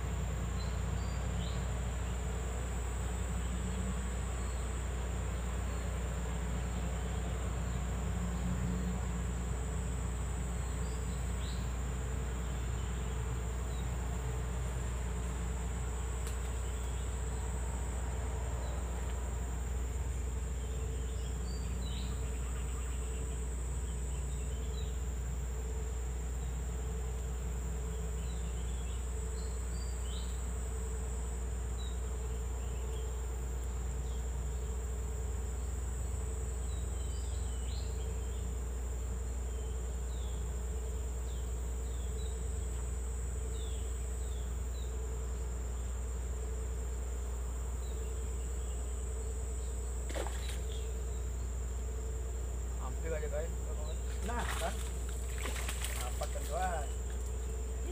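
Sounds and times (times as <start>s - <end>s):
constant low rumble: 0.0s - 57.9s
low droning hum: 0.0s - 57.9s
short insect chirps: 0.4s - 57.9s
high-pitched insect buzz: 2.4s - 57.9s.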